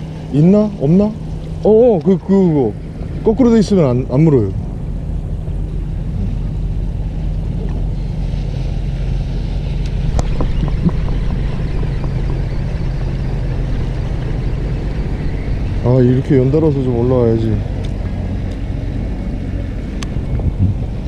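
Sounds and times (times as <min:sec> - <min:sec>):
boat engine running: 0:00.0 - 0:21.0
wind on microphone: 0:02.7 - 0:21.0.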